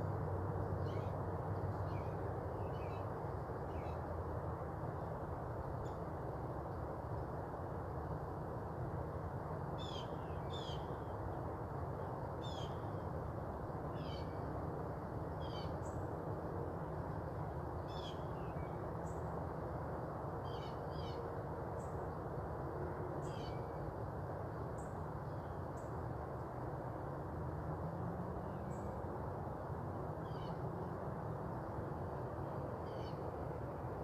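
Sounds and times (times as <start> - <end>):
low background hiss and rumble: 0.0 - 34.0.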